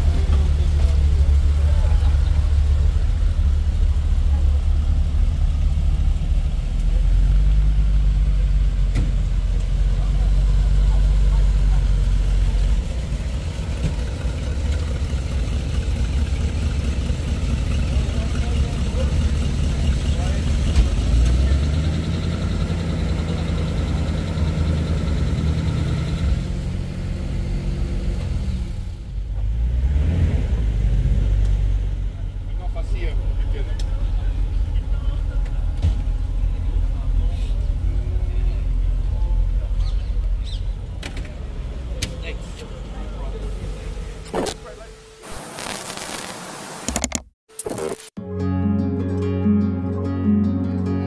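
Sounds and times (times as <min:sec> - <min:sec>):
car engines idling: 0:00.0 - 0:29.8, 0:30.5 - 0:45.3.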